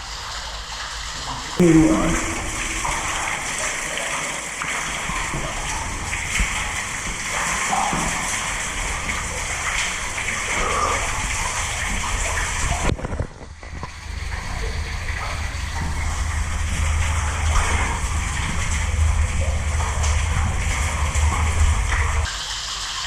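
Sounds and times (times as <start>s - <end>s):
water rushing in drain tunnel: 0.0s - 23.0s.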